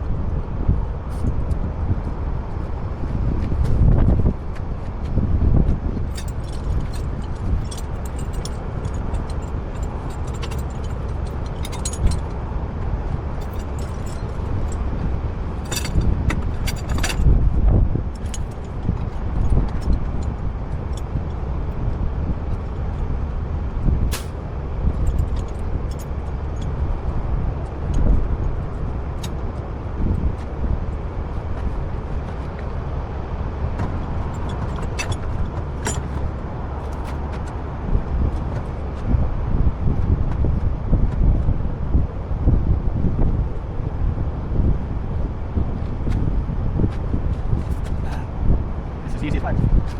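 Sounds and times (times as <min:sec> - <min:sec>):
heavy truck engine rumbling: 0:00.0 - 0:49.9.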